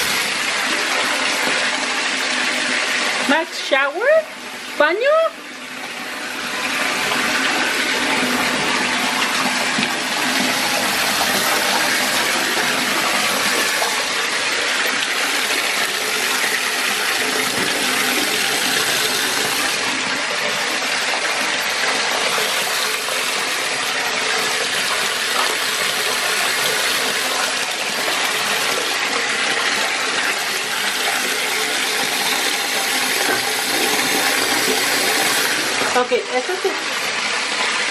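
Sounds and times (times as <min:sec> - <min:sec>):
tap water pouring into tub: 0:00.0 - 0:37.9.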